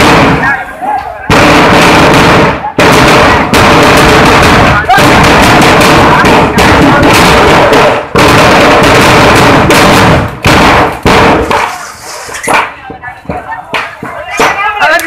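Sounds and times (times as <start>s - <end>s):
firecrackers crackling and banging: 0.0s - 15.0s.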